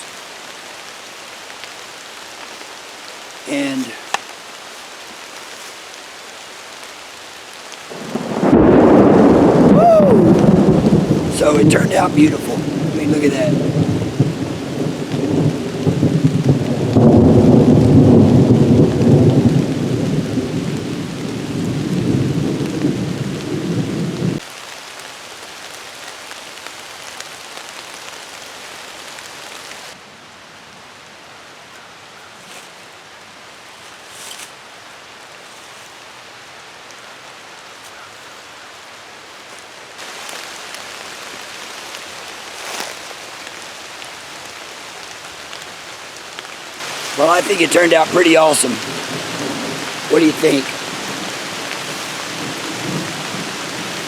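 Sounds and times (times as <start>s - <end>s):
rain-like hiss: 0.0s - 54.0s.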